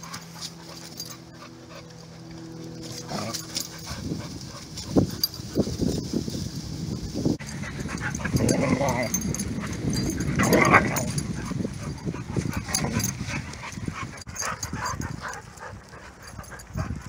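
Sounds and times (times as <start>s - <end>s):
dogs yipping and whining: 0.0s - 5.6s, 7.4s - 17.0s
paws scuffling on ground: 0.0s - 17.0s.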